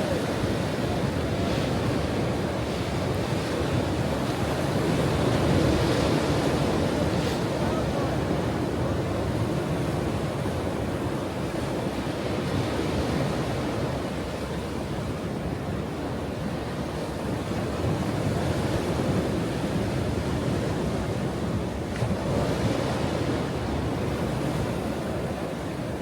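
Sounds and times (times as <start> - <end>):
ocean waves washing onto shore: 0.0 - 26.0.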